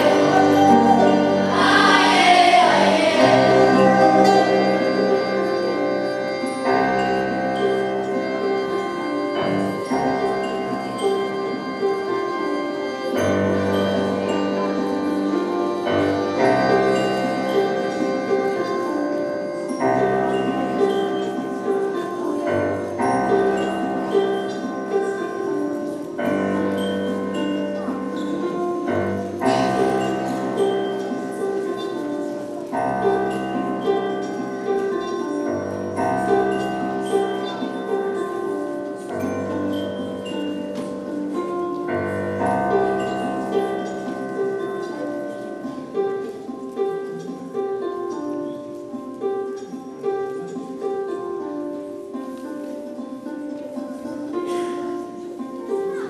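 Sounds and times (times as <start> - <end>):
electric keyboard chords: 0.0 - 47.4
harp playing: 0.0 - 56.0.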